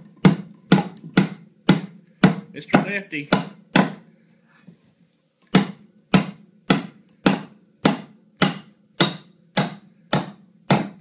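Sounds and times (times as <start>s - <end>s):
hammer striking nail into wood: 0.2s - 4.0s, 5.5s - 11.0s.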